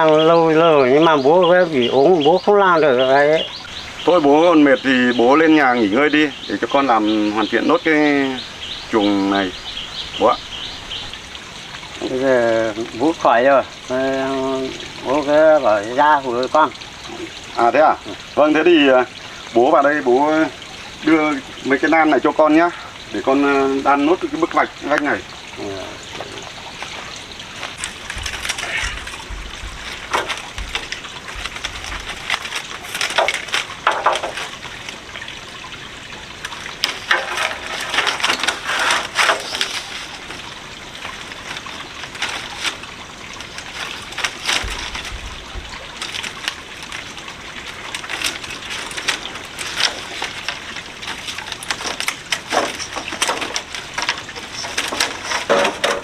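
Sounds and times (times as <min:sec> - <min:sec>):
bamboo strips clacking and scraping: 0:00.0 - 0:25.3, 0:26.0 - 0:56.0.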